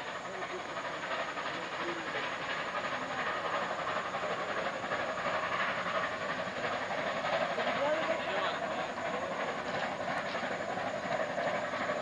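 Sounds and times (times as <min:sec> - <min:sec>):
train wheels hissing on rails: 0:00.0 - 0:12.0.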